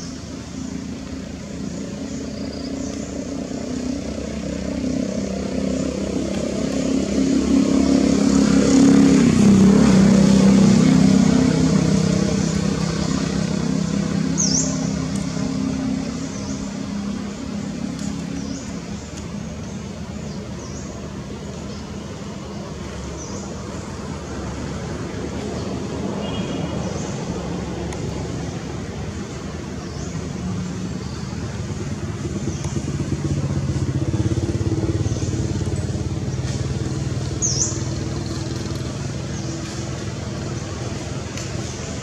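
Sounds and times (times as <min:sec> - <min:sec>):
passing vehicle engine drone: 0:00.0 - 0:42.0.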